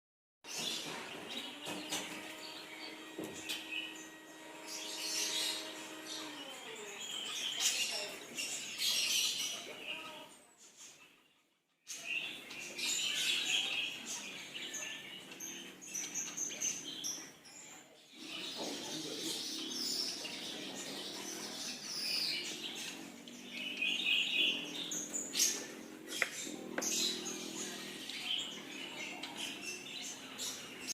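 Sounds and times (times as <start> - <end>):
small birds chirping: 0.4 - 30.9.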